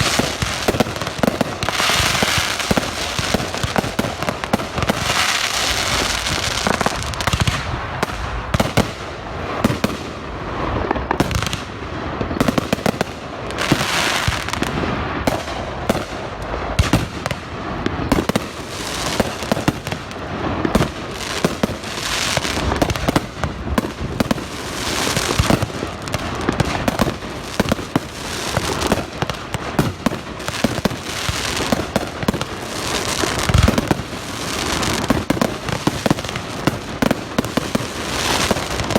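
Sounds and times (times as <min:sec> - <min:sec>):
fireworks bangs and pops: 0:00.0 - 0:38.9
fireworks crackling: 0:00.0 - 0:38.9.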